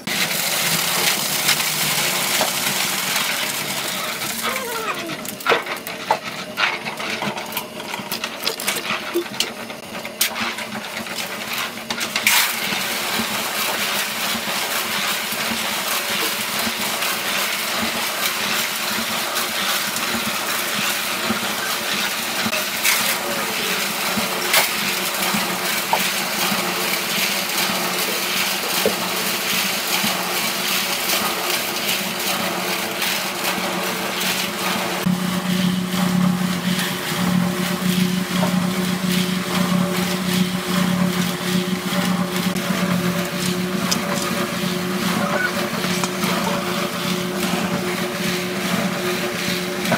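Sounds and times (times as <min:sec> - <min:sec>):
concrete mixer humming: 0:00.0 - 0:49.9
wet concrete scraping and rattling: 0:00.0 - 0:49.9.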